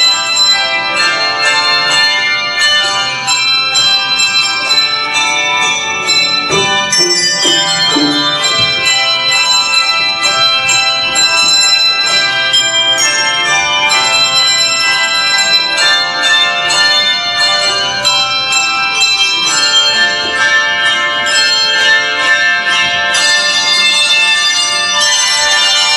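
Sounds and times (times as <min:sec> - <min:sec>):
handbell choir playing: 0:00.0 - 0:25.9.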